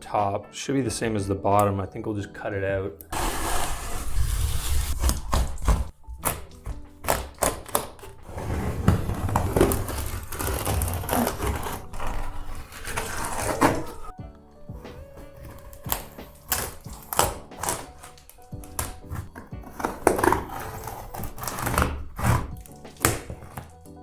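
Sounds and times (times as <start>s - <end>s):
background music: 0.0s - 24.0s
rough scraping: 3.1s - 24.0s.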